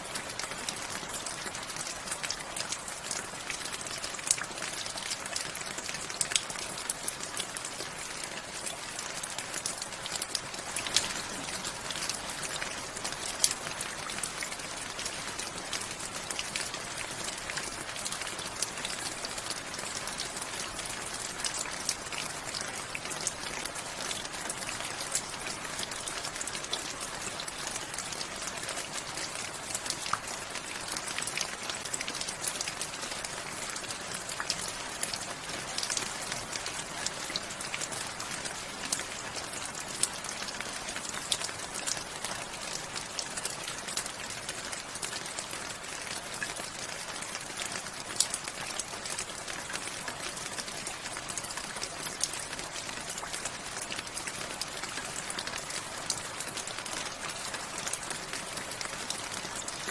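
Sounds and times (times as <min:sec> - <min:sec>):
raindrops ticking close by: 0:00.0 - 0:59.9
steady rain falling: 0:00.0 - 0:59.9.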